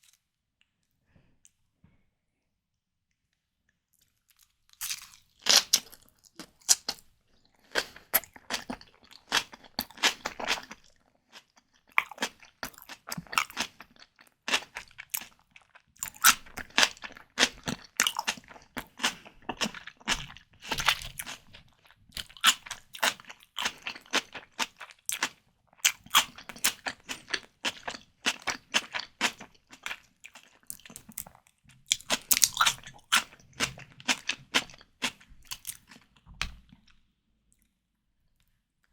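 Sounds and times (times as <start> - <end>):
crunchy chewing and biting: 4.2 - 7.0, 7.6 - 36.1.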